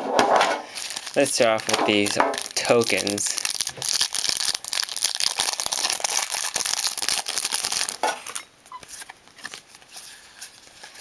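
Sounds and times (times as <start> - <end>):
cards rustling: 0.6 - 8.0, 8.8 - 11.0
plastic wrapper crinkling and tearing: 0.7 - 11.0.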